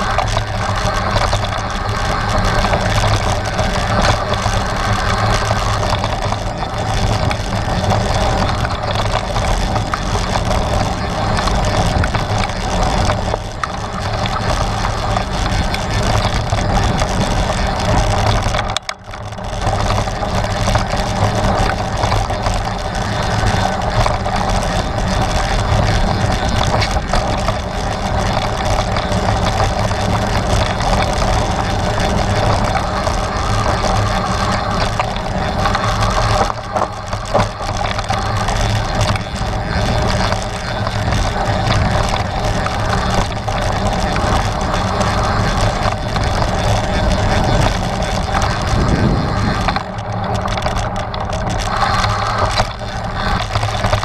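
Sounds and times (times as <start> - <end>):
bike rattling: 0.0 - 54.0
bike tyres on dirt and rock: 0.0 - 54.0.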